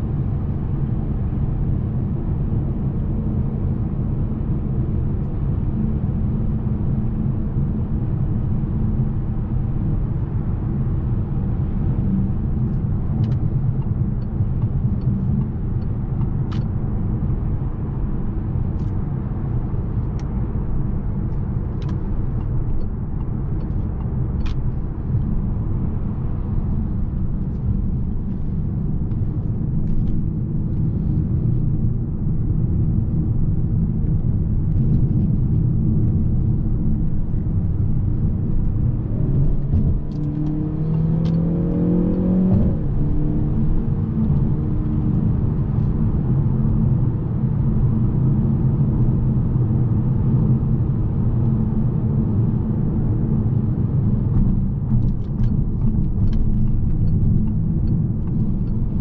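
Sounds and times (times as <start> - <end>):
road rumble: 0.0 - 59.0
car engine running: 9.4 - 59.0.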